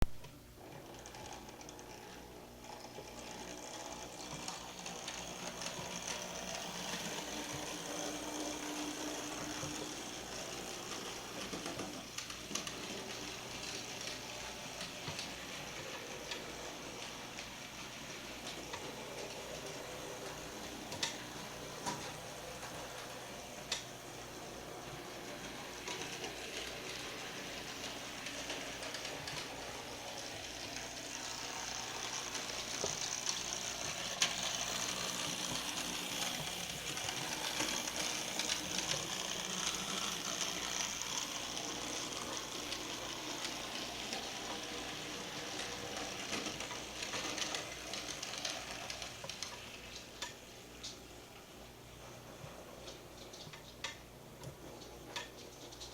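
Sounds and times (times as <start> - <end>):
wheels rattling on rails: 0.6 - 50.6
model train motor whirring: 0.6 - 51.4.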